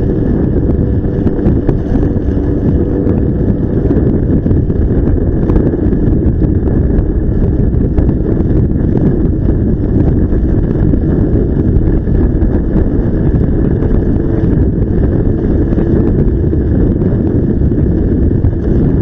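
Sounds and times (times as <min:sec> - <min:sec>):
scooter engine running: 0:00.0 - 0:19.0
wind buffeting microphone: 0:00.0 - 0:19.0.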